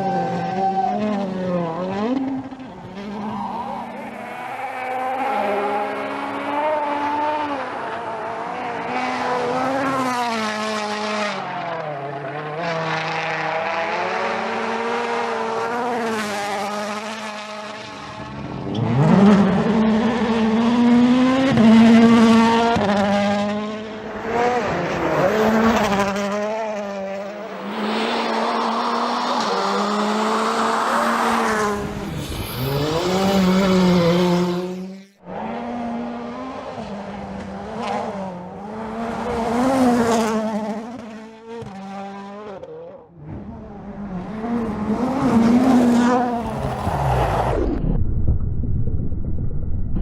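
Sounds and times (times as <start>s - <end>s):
rally car engines revving: 0.0s - 47.8s.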